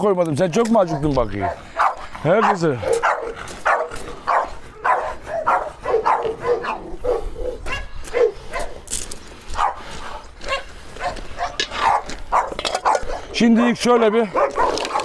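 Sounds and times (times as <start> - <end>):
dogs barking: 0.6 - 8.9, 9.5 - 15.0.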